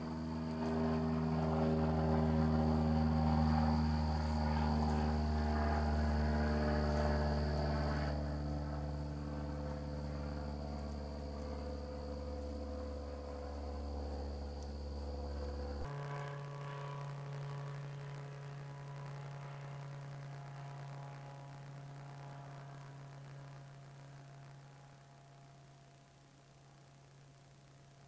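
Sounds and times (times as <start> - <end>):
faint high-pitched whine: 0.0 - 28.0
steady low hum: 0.0 - 28.0.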